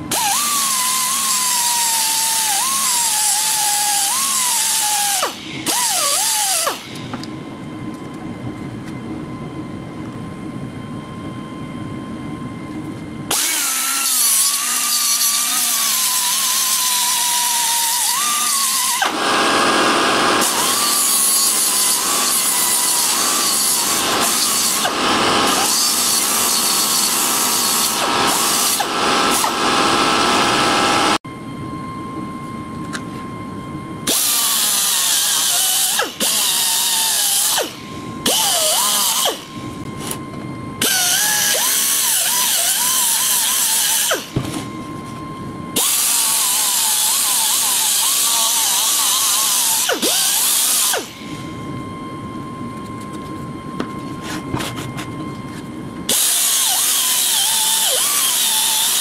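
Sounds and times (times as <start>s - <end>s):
rotary power tool whine: 0.0s - 8.2s, 12.5s - 31.2s, 32.4s - 59.0s.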